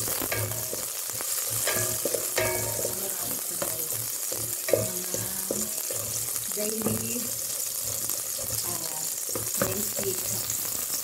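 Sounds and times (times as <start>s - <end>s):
garlic sizzling in hot oil: 0.0s - 11.0s
wooden spatula scraping pot: 0.4s - 10.7s.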